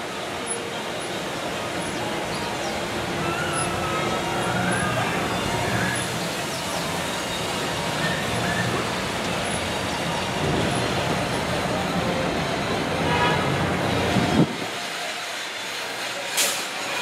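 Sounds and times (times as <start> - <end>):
tram engine and tyres rumbling: 0.0 - 17.0.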